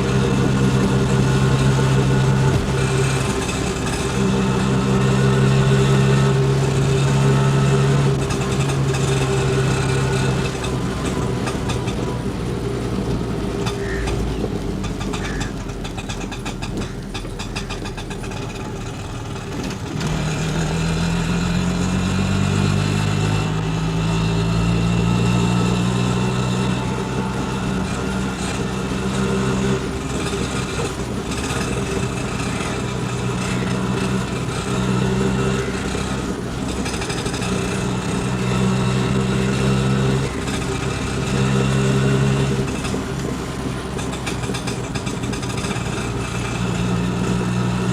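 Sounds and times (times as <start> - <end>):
auto rickshaw engine running: 0.0 - 47.9.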